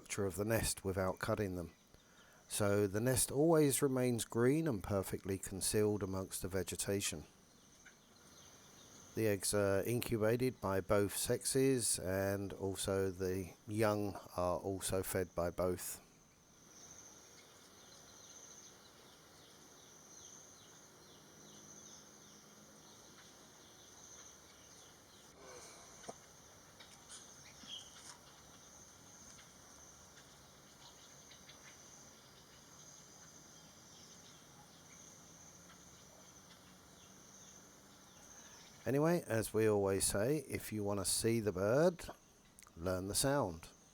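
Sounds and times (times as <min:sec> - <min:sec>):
faint insect chirring: 0:00.0 - 0:43.9.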